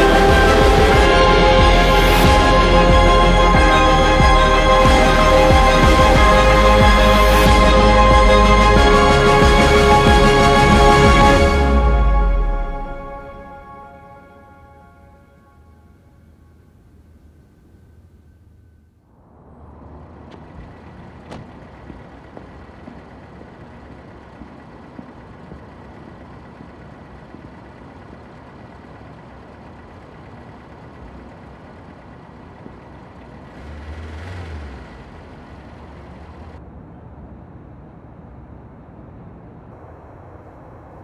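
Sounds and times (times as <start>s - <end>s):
low rumble: 0.0s - 14.6s, 15.3s - 33.7s, 34.8s - 41.0s
traffic hum: 0.0s - 41.0s.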